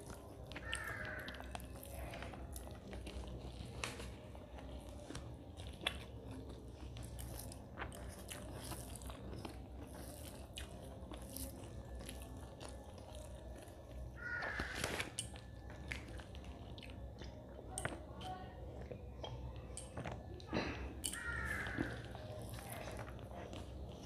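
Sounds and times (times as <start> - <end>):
chewing and mouth smacks: 0.0 - 14.1, 14.9 - 24.0.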